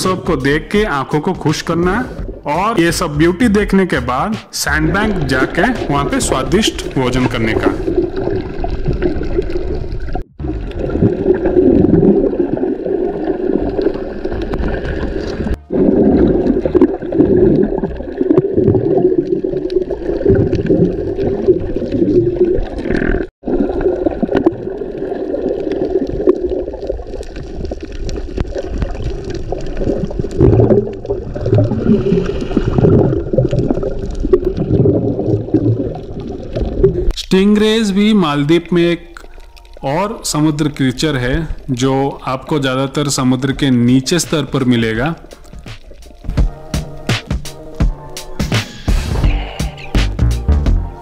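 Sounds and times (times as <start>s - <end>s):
underwater water sloshing and bubbling: 0.0s - 2.5s, 4.9s - 48.4s.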